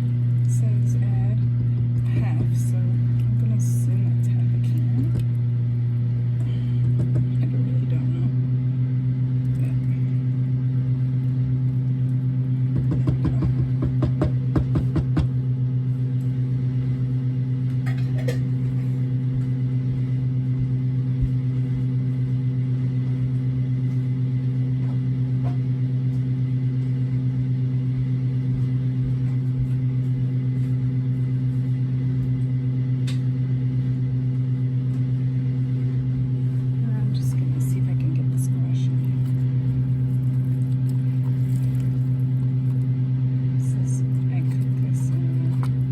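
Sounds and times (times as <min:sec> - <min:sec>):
kitchen appliance humming: 0:00.0 - 0:45.9.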